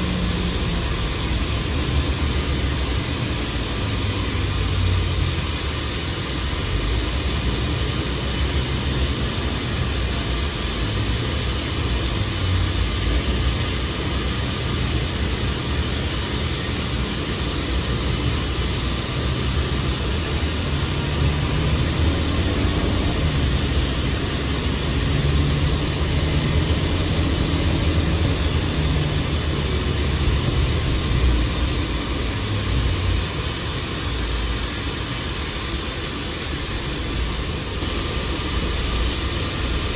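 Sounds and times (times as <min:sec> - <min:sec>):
bus engine drone: 0:00.0 - 0:39.9
high hiss: 0:00.0 - 0:39.9.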